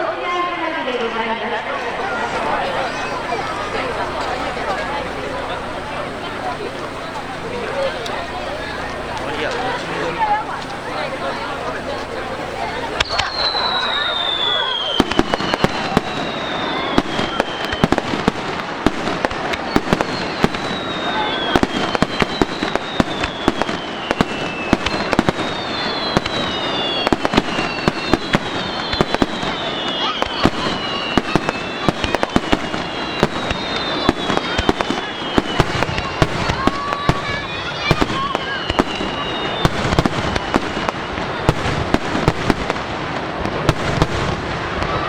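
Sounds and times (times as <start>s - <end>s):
fireworks bangs and crackles: 0.0s - 45.0s
falling firework whistle: 1.8s - 45.0s.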